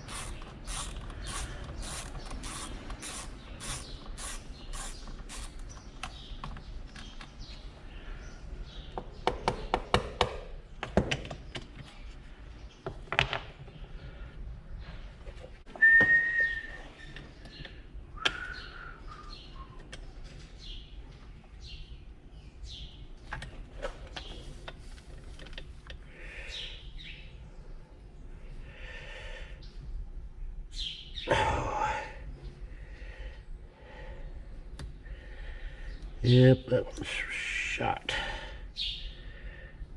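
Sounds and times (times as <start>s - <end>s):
birds chirping: 0.0s - 10.8s, 11.4s - 24.9s, 25.9s - 39.9s.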